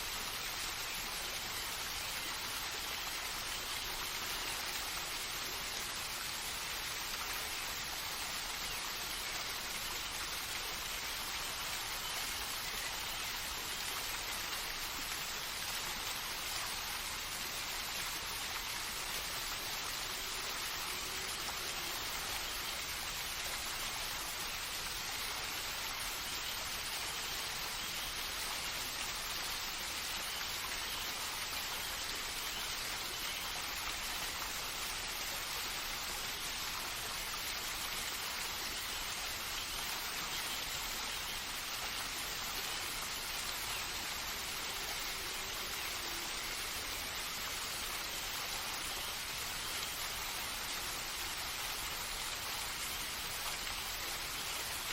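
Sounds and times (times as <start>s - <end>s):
steady hiss of rain: 0.0s - 54.9s.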